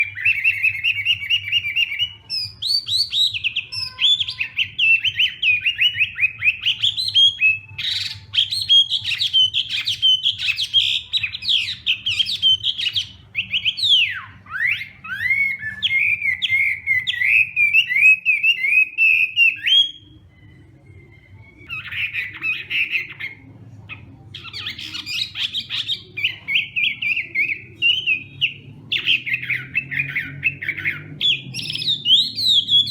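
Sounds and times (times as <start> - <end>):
bird singing varied song: 0.0 - 32.9.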